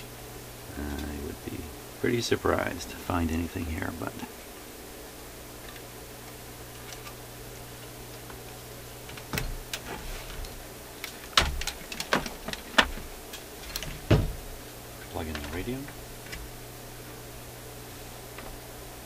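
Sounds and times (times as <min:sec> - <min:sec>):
low mains hum: 0:00.0 - 0:19.0.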